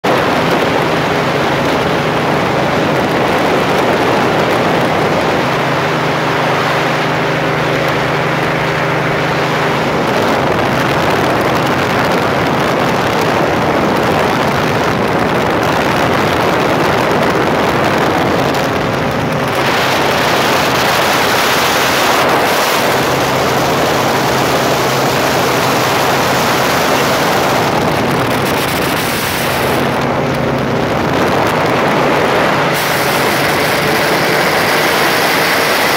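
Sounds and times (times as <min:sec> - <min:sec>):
light aircraft engine drone: 0:00.0 - 0:35.9
wind rushing on microphone: 0:00.0 - 0:35.9.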